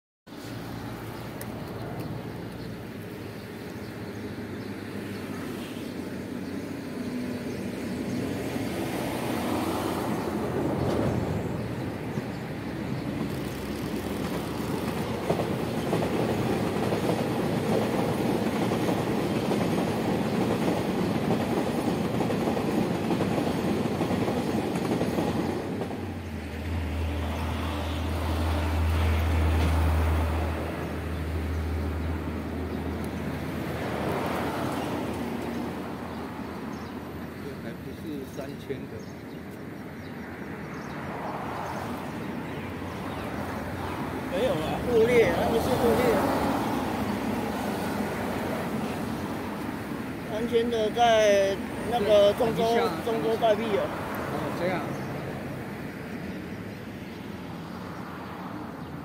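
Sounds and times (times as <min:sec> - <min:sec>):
electric train passing: 0:00.4 - 0:59.0.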